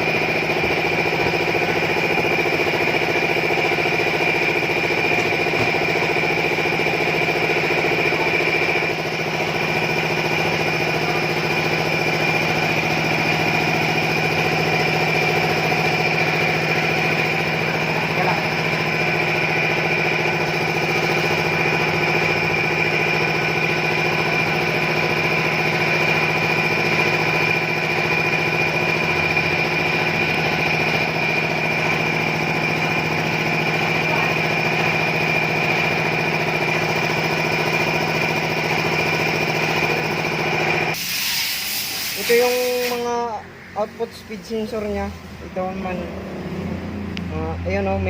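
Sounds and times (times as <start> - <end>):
motor humming with high whine: 0.0 - 48.0.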